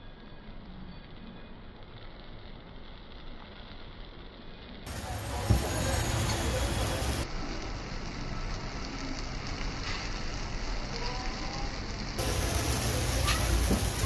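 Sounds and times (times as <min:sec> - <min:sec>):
batter sizzling on a griddle: 0:00.0 - 0:14.0.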